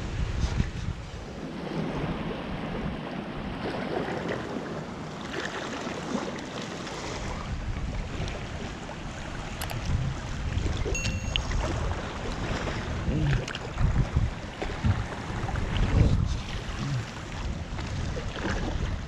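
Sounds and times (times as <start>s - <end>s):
wind on microphone: 0.0s - 4.9s, 6.9s - 19.0s
waves lapping on rocks: 0.2s - 19.0s.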